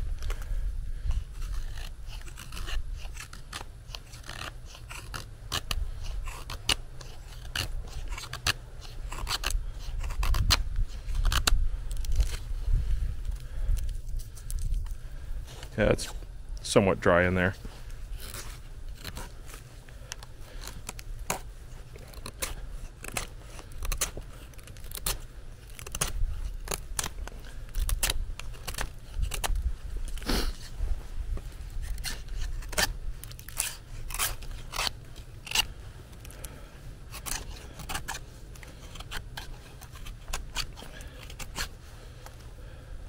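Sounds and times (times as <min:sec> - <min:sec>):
knife shaving wet wood: 0:01.3 - 0:12.6, 0:17.8 - 0:30.8, 0:31.7 - 0:42.8.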